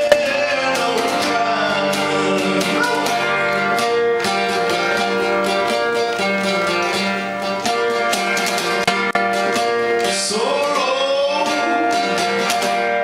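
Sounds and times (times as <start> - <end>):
ukulele strumming: 0.0 - 13.0.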